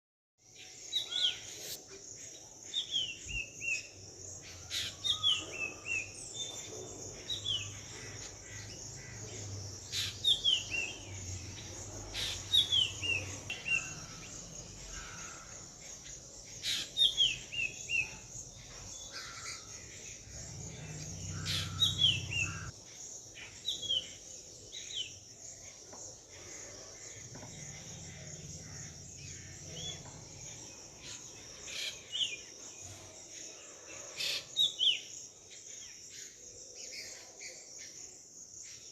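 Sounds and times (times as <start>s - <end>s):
high insect drone: 0.5s - 37.1s
bird chirping calls: 0.6s - 35.1s.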